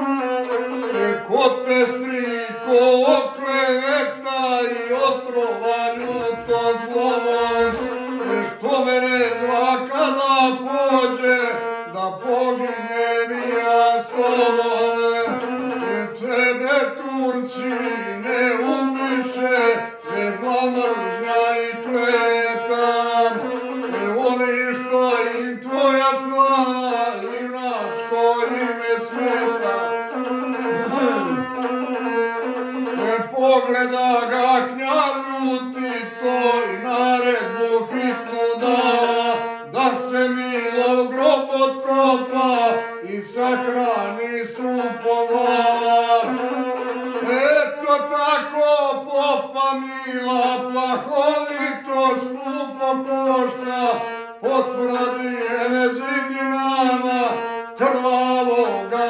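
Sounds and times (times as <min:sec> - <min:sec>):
bowed single-string fiddle: 0:00.0 - 0:59.0
man chanting: 0:00.0 - 0:59.0
man singing: 0:00.0 - 0:59.0.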